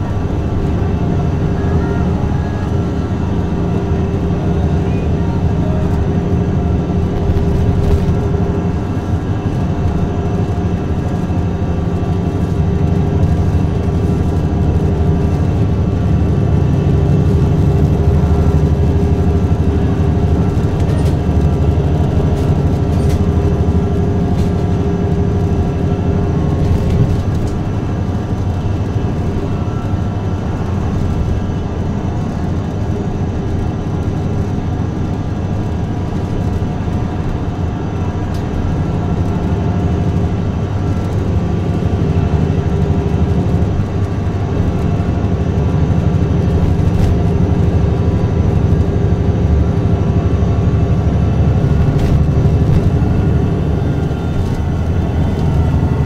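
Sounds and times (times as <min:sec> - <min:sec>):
bus engine low rumble: 0:00.0 - 0:56.0.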